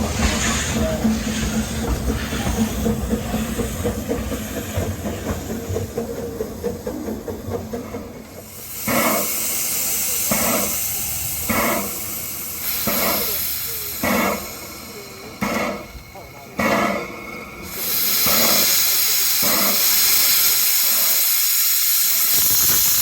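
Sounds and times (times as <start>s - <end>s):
locomotive steam puffs: 0.0s - 23.0s
steam hissing: 0.0s - 23.0s
steam locomotive rumbling: 0.0s - 23.0s.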